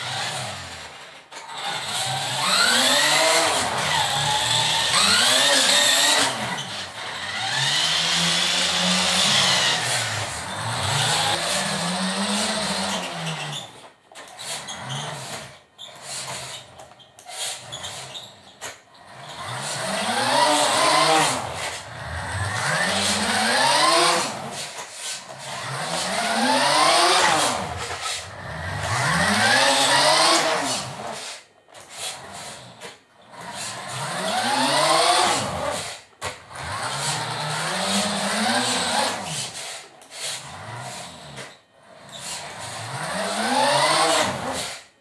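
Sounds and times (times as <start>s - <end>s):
toy car motor whining: 0.0s - 45.0s.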